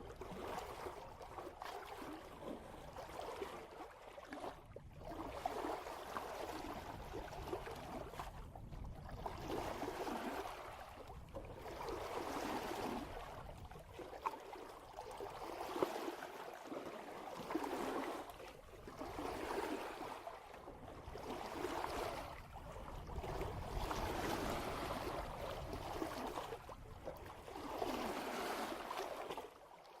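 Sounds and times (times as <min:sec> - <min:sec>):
water rushing along hull: 0:00.0 - 0:30.0.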